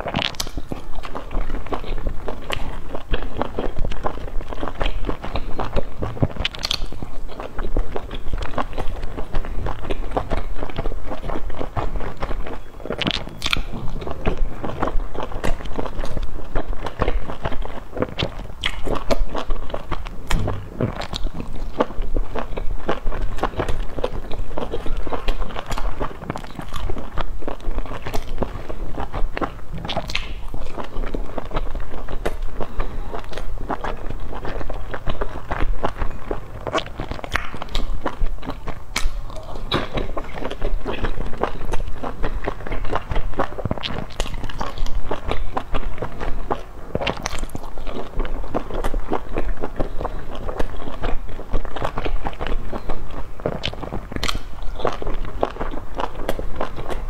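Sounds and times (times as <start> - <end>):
chewing soft buns: 0.0 - 57.0
mouth clicks: 0.0 - 57.0.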